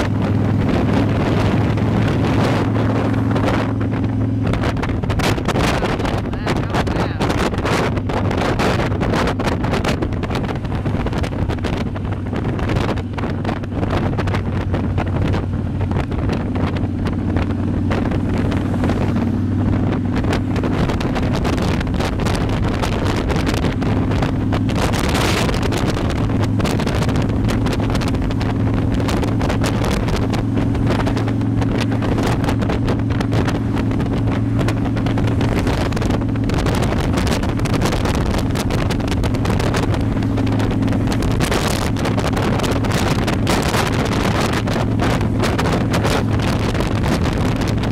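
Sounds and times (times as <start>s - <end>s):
motorcycle engine running: 0.0s - 47.9s
wind buffeting microphone: 0.0s - 47.9s.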